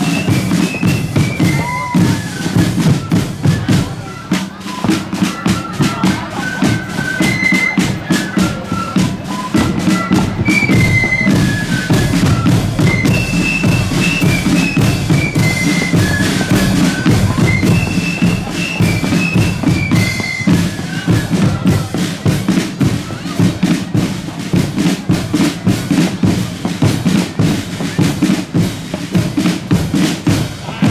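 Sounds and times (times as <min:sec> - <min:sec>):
flutes playing melody: 0:00.0 - 0:28.8
side drum and bass drum beats: 0:00.0 - 0:30.9.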